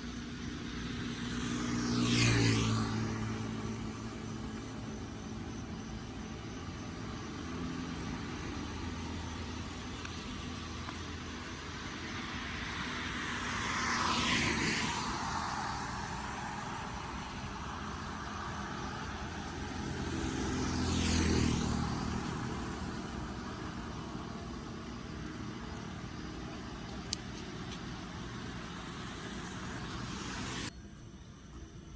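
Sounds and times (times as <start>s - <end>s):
vehicle passing by: 0.0s - 30.7s
background noise wash: 0.0s - 31.9s.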